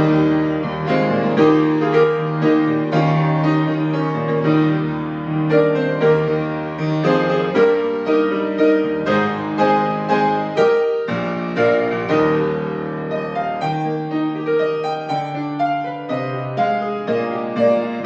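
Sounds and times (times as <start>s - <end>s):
piano playing a hymn: 0.0s - 18.0s.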